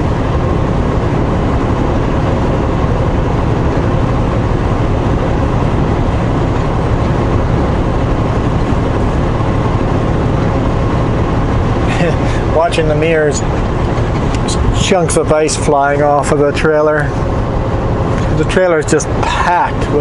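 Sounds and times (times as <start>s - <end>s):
faint steady hum: 0.0s - 20.0s
truck engine and road noise: 0.0s - 20.0s.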